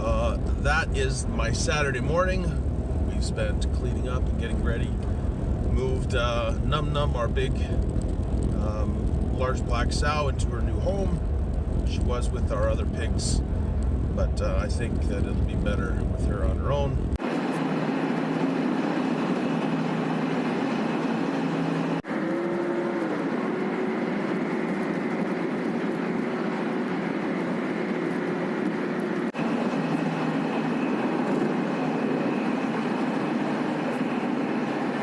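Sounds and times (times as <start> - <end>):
road noise: 0.0 - 35.0
vehicle engine droning: 0.0 - 35.0.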